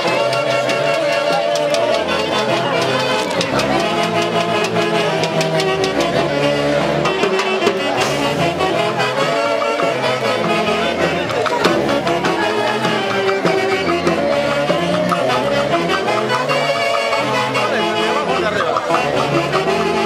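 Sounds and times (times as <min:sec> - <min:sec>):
brass band dance music: 0:00.0 - 0:20.0.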